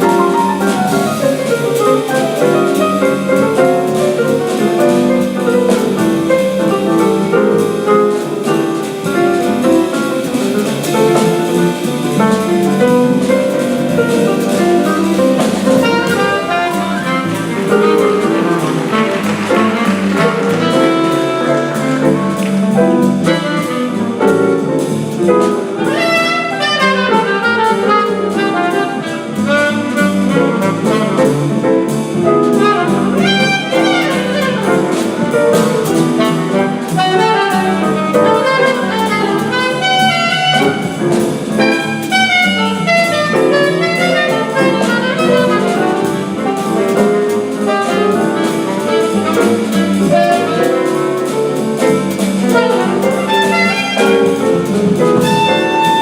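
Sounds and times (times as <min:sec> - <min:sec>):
drum kit: 0:00.0 - 0:56.0
piano: 0:00.0 - 0:56.0
saxophone solo: 0:08.1 - 0:24.4, 0:25.8 - 0:31.9, 0:32.6 - 0:56.0.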